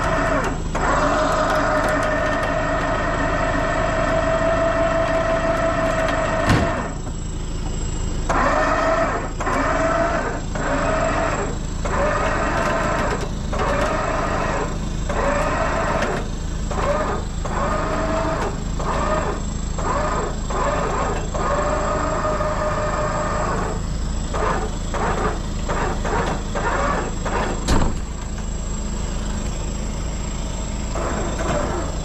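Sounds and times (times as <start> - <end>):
winch whining: 0.0 - 7.1, 8.3 - 29.4, 30.7 - 32.0
truck engine running: 0.0 - 32.0.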